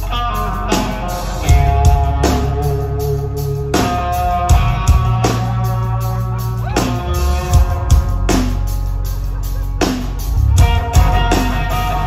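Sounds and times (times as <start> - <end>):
drum kit beat: 0.0 - 12.0
electric guitars: 0.0 - 12.0.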